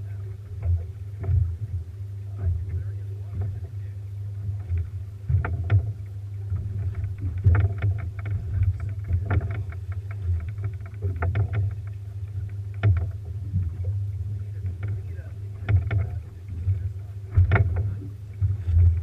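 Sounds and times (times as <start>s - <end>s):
boat low rumble: 0.0s - 19.0s
water knocks and slaps: 0.0s - 19.0s.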